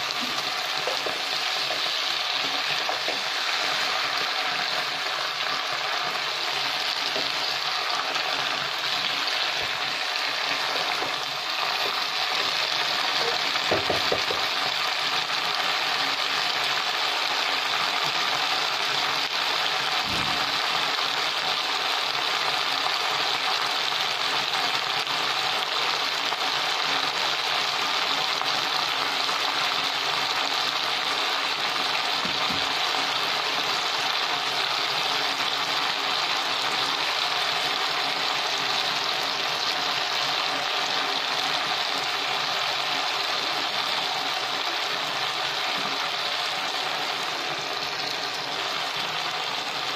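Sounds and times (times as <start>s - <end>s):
vegetables sizzling in oil: 0.0s - 49.9s.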